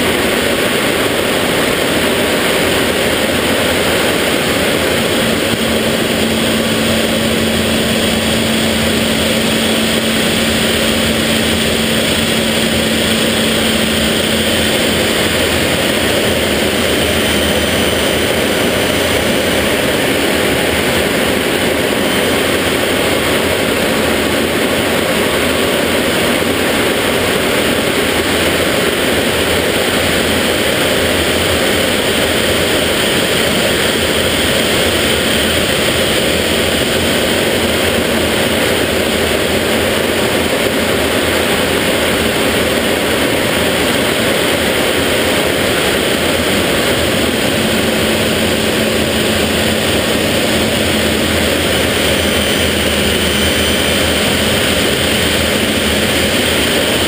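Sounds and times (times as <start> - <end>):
airflow over canopy: 0.0 - 57.0
jet engine rush: 0.0 - 57.0
low steady hum: 0.0 - 57.0.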